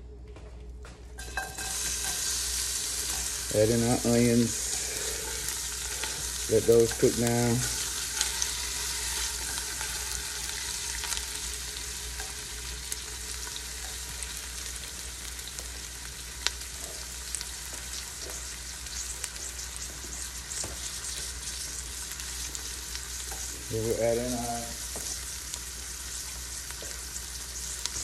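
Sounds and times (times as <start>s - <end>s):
onions sizzling in oil: 1.2s - 28.0s.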